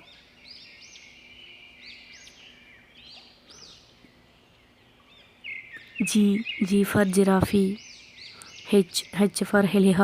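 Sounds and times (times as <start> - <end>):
birds chirping: 0.0 - 10.0
faint low hum: 0.0 - 10.0.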